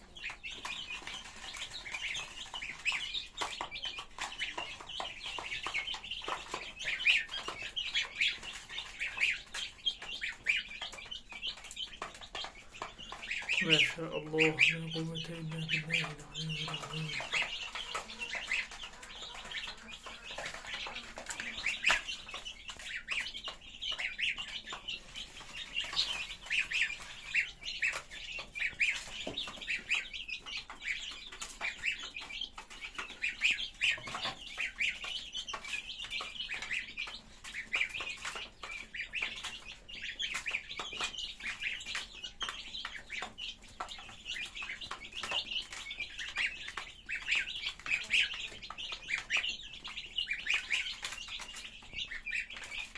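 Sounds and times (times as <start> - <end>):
flock of birds chirping: 0.0 - 52.9.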